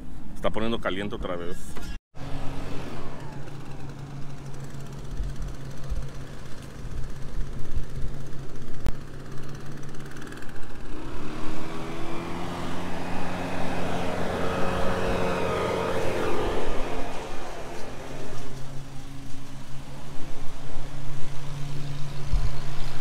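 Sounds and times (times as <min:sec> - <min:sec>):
engine humming: 0:02.2 - 0:23.0
second engine rising pitch: 0:02.2 - 0:23.0.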